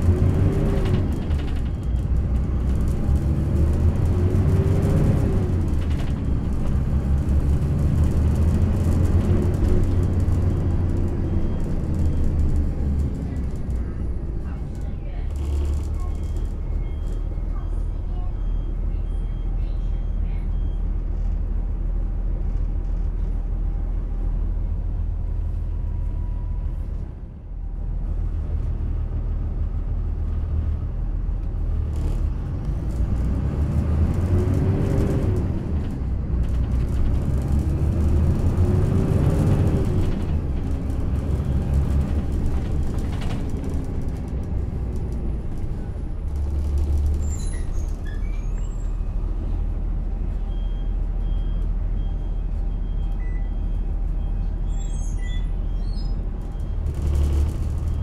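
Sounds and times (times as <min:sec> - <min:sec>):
bus diesel engine rumble: 0:00.0 - 0:58.0.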